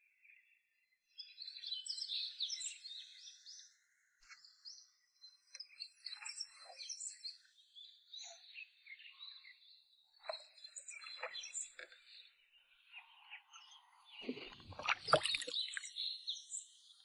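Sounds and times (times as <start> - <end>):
faint birdsong chirps and whistles: 0.0 - 17.0.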